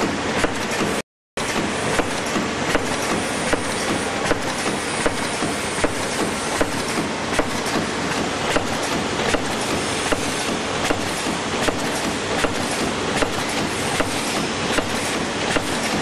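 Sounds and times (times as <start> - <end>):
packing machine clatter: 0.0 - 16.0.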